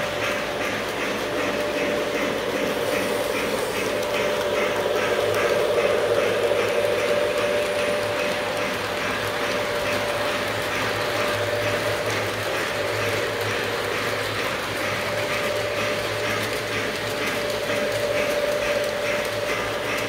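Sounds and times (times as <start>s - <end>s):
model train wheels clicking: 0.0s - 20.0s
steady mechanical hum: 0.0s - 20.0s.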